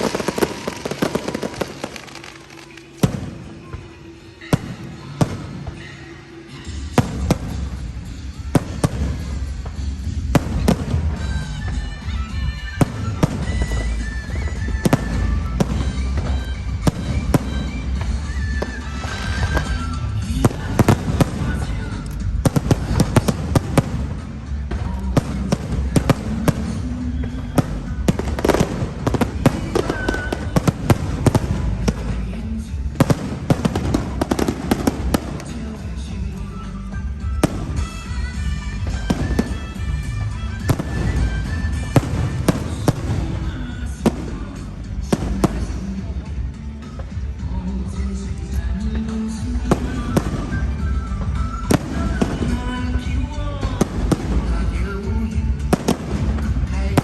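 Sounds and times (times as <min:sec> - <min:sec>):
fireworks bangs and crackling: 0:00.0 - 0:57.0
music playing: 0:00.0 - 0:57.0.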